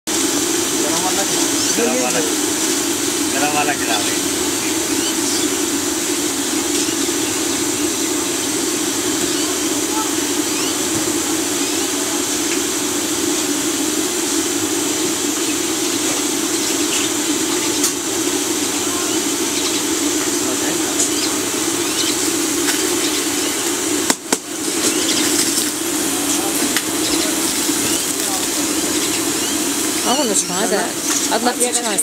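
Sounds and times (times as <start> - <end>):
hot oil sizzling: 0.0 - 32.0.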